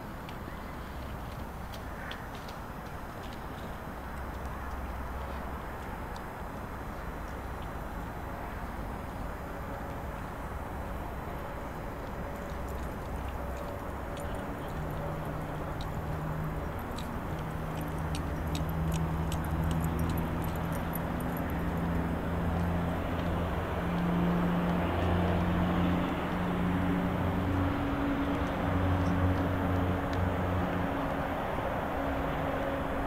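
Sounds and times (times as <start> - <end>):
low engine hum: 0.0 - 33.0
traffic noise: 0.0 - 33.0.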